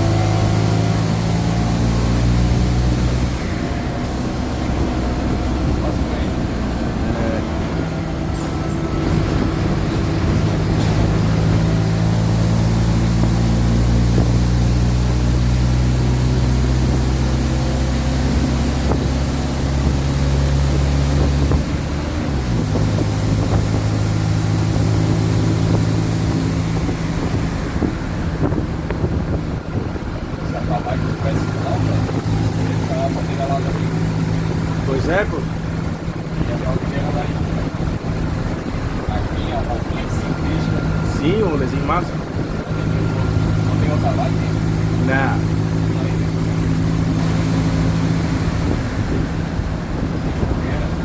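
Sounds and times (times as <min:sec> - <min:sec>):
bus diesel engine running: 0:00.0 - 0:51.0.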